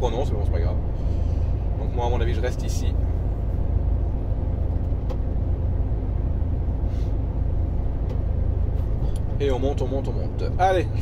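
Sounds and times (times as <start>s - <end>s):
road noise: 0.0s - 11.0s
truck diesel engine rumble: 0.0s - 11.0s.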